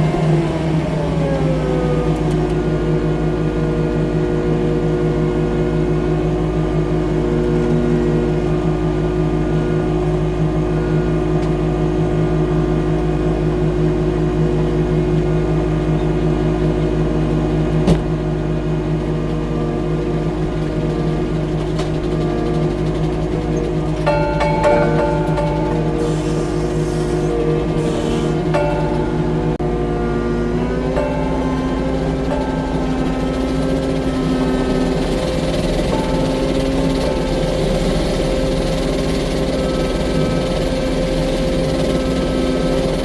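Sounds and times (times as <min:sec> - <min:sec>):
loader engine running: 0:00.0 - 0:43.0.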